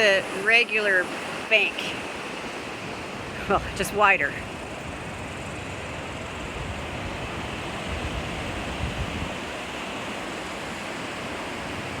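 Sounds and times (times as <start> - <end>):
floodwater rushing: 0.0 - 12.0
wind buffeting microphone: 1.2 - 12.0.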